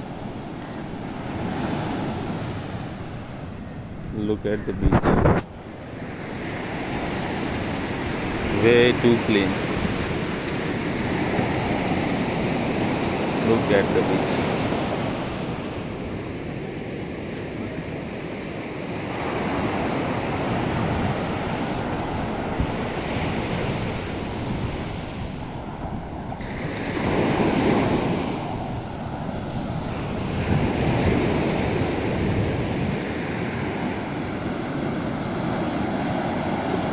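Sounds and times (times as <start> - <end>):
wind buffeting microphone: 0.0 - 13.4, 19.0 - 36.9
ocean waves breaking on beach: 0.0 - 36.9.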